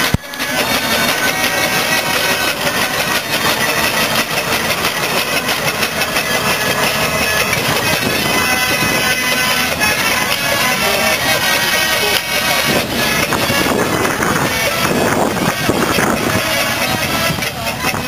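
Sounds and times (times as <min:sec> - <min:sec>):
traction engine running: 0:00.0 - 0:18.0.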